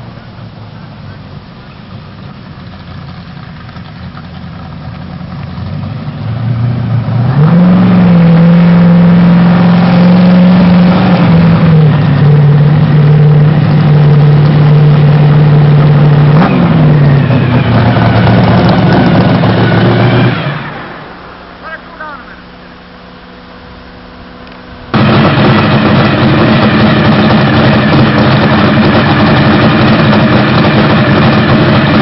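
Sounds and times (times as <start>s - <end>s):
loud car engine running: 0.0s - 32.0s.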